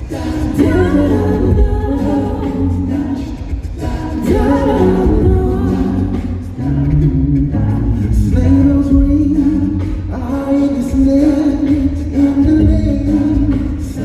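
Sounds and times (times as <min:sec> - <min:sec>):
voices singing with music: 0:00.0 - 0:14.0.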